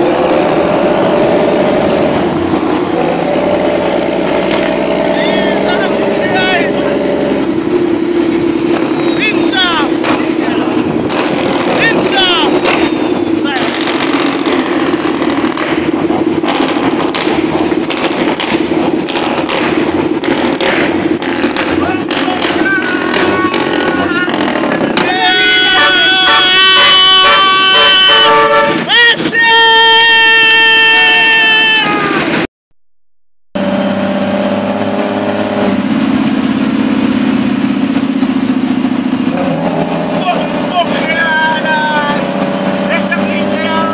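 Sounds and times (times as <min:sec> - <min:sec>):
road noise: 0:00.0 - 0:32.5, 0:33.6 - 0:43.9
truck engine drone: 0:00.0 - 0:32.5, 0:33.6 - 0:43.9.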